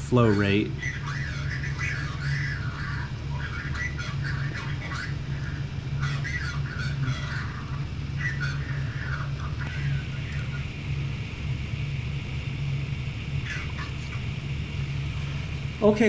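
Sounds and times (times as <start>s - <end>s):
low fan hum: 0.0s - 16.0s.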